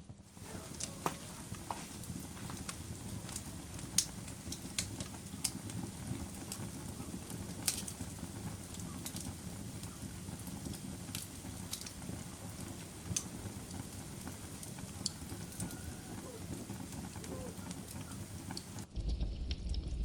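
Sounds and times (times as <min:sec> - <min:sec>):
wood fire crackling: 0:00.0 - 0:20.0
fire pops and snaps: 0:00.1 - 0:20.0.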